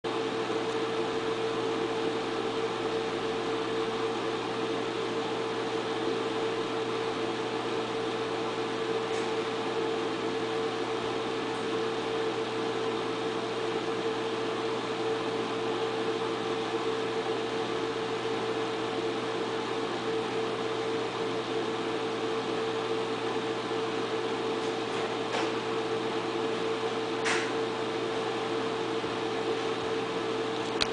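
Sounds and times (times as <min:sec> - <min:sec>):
projector cooling fan humming: 0:00.1 - 0:30.9.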